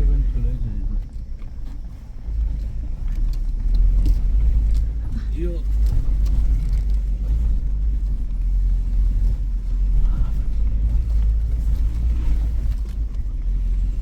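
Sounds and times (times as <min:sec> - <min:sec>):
vehicle rumbling over rocks: 0:00.0 - 0:14.0.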